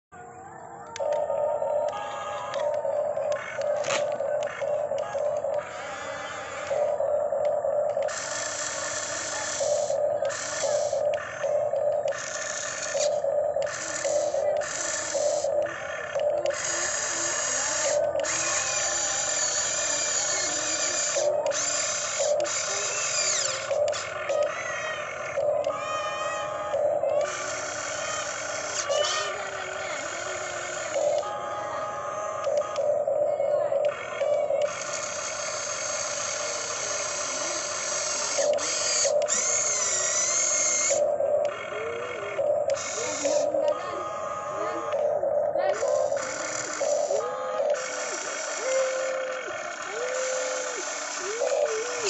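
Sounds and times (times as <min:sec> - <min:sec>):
model excavator motors whirring: 0:00.2 - 0:52.0.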